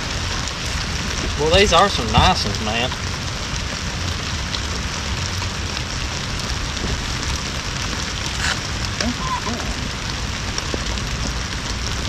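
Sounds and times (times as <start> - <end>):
rain on boat and lake: 0.0 - 12.0.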